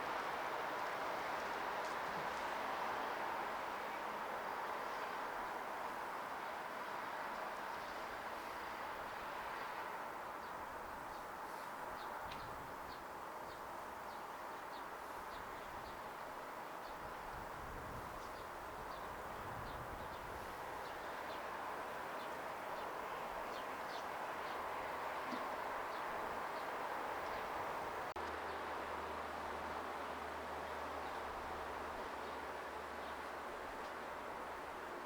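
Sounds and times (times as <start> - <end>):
steady outdoor hiss: 0.0 - 35.0.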